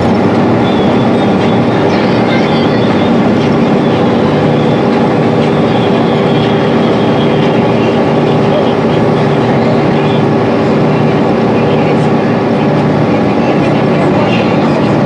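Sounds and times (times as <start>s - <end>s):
bus diesel engine drone: 0.0s - 15.0s
road and tyre noise: 0.0s - 15.0s.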